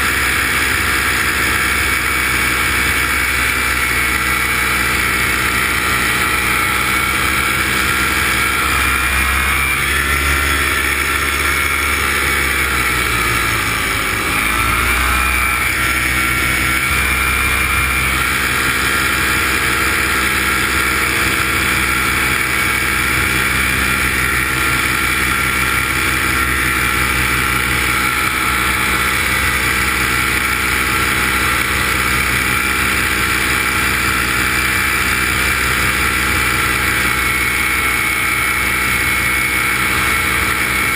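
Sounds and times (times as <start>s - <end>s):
small aircraft engine and propeller: 0.0s - 40.9s.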